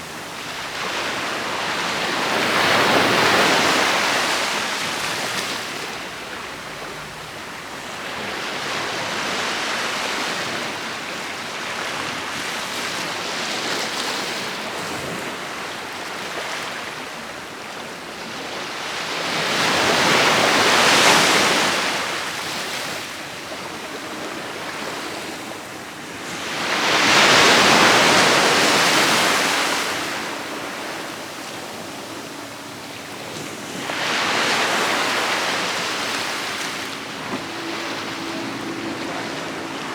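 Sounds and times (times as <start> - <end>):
ocean waves breaking: 0.0 - 17.1, 18.0 - 39.9.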